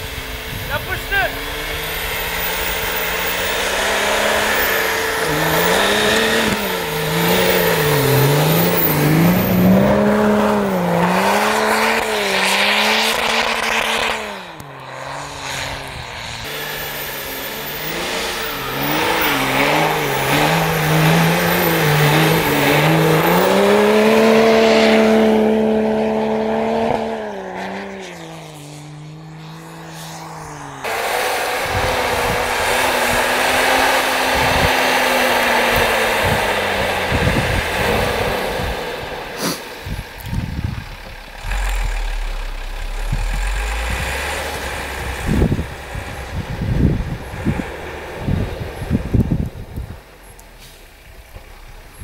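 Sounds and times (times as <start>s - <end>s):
engine revving: 0.0s - 52.0s.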